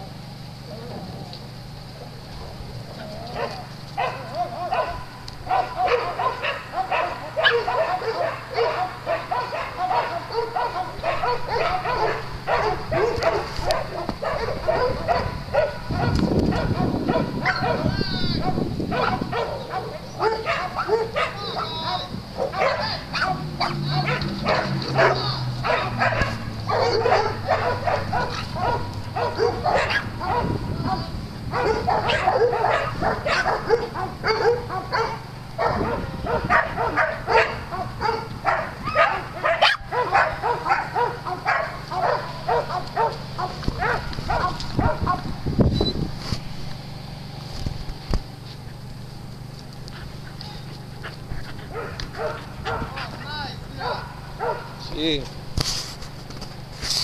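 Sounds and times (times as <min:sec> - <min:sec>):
small dogs barking and yapping: 0:00.0 - 0:46.0, 0:46.8 - 0:55.1.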